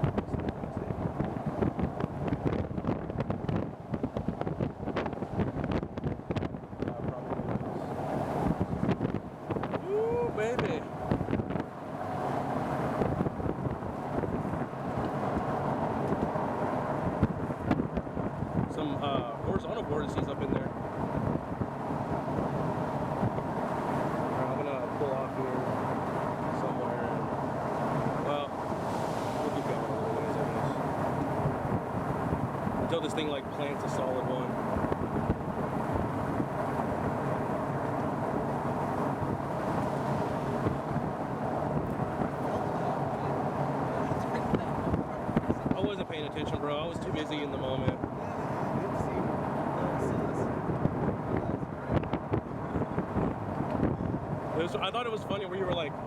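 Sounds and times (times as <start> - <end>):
moving vehicle running: 0.0 - 56.0
wind on microphone: 0.0 - 56.0.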